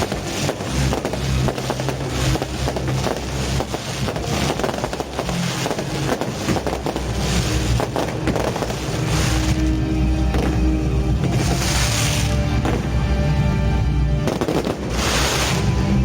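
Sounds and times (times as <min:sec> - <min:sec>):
fireworks bangs and crackles: 0:00.0 - 0:13.6, 0:14.2 - 0:16.0.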